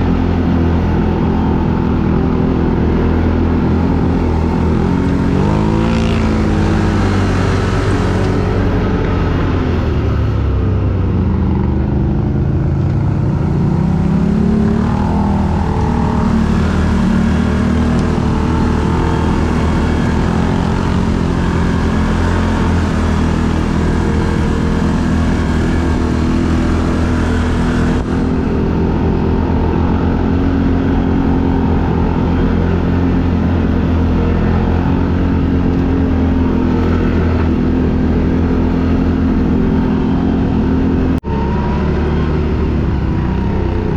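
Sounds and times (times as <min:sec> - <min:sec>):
quad bike engine revving: 0:00.0 - 0:43.9.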